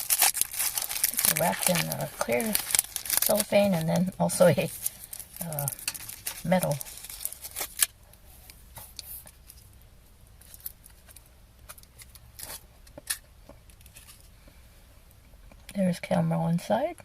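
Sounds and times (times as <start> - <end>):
sweet wrapper crinkling: 0.0 - 8.2, 8.9 - 14.3.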